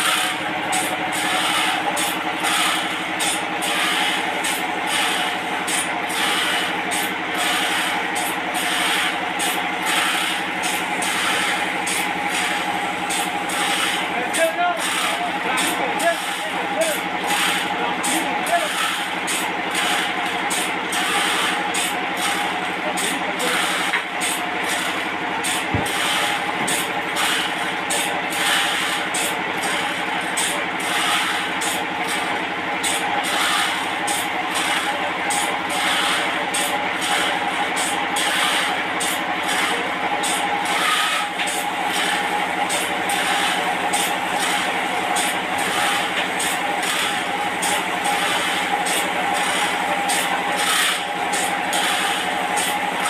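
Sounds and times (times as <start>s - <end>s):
saw blade rasping through log: 0.0s - 53.0s
sawmill engine drone: 0.0s - 53.0s.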